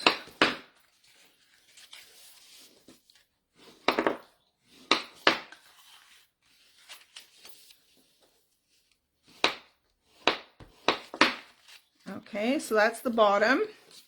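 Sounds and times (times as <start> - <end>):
paper rustling: 0.7 - 3.9, 4.6 - 14.0.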